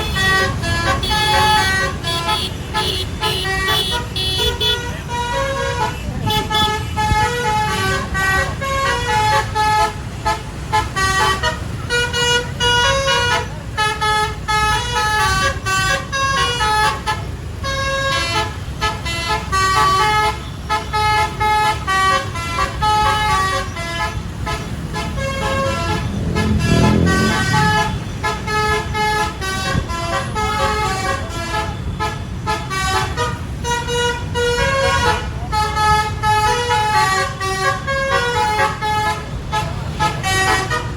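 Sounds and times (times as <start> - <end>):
bus horn playing melody: 0.0 - 40.9
low rumble of engines and traffic: 0.0 - 40.9.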